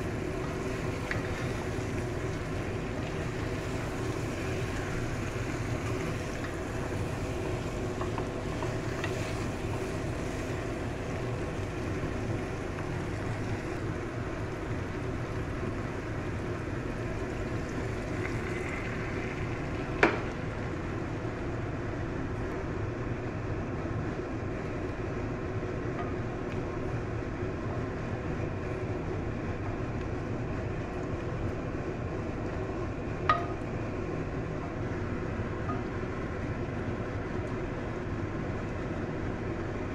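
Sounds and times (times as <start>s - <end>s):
food cooking hum and hiss: 0.0s - 39.9s.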